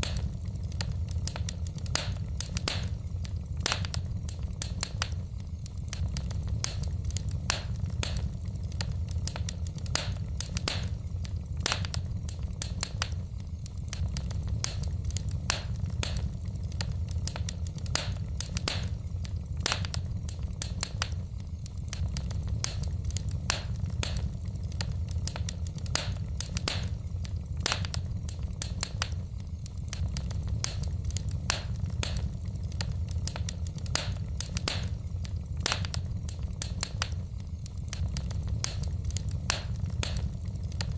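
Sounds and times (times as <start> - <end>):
logs crackling and popping: 0.0 - 40.9
low rumble of flames: 0.0 - 40.9.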